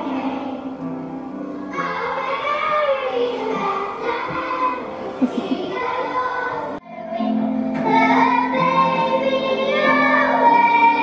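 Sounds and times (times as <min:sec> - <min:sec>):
children singing with music: 0:00.0 - 0:11.0.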